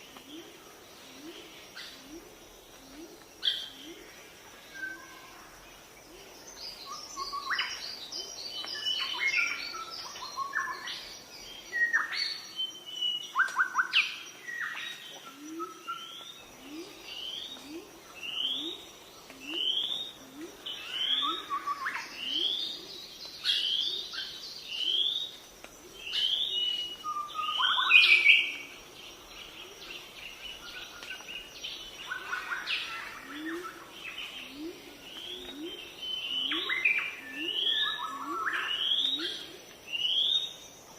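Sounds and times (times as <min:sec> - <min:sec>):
birds chirping and calling: 0:06.5 - 0:40.6.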